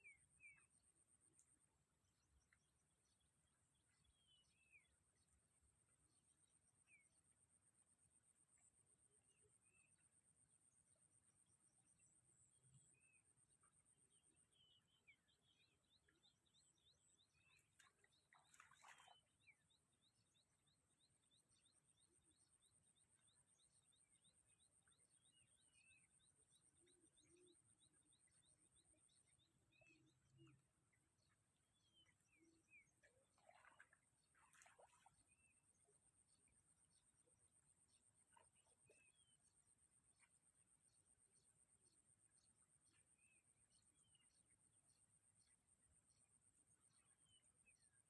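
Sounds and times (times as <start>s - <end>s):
faint birds chirping: 0.0s - 48.0s.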